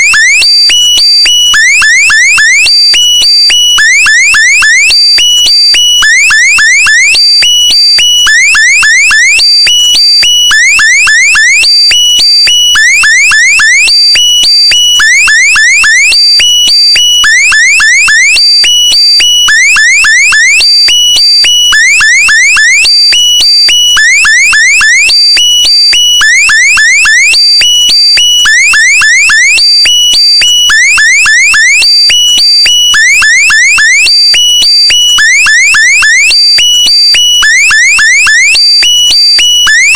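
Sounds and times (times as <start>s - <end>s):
electronic alarm chirps: 0.0s - 39.9s.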